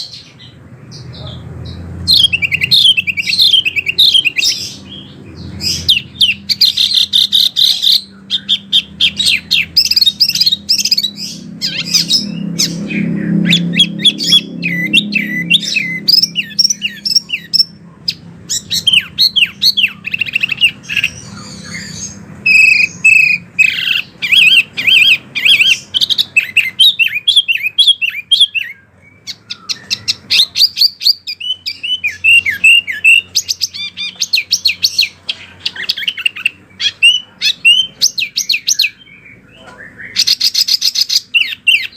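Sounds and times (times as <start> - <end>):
songbird chirping and twittering: 0.0 - 41.9.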